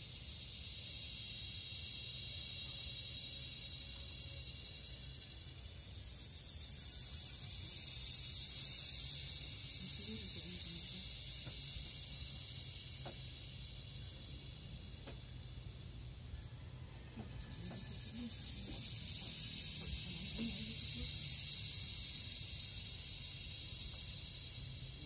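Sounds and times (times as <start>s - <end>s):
cicada buzzing drone: 0.0s - 25.0s.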